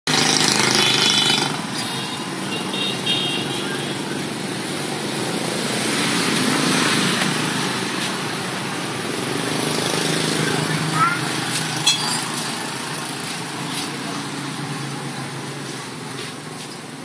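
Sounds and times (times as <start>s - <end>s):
traffic engines running: 0.1s - 17.0s.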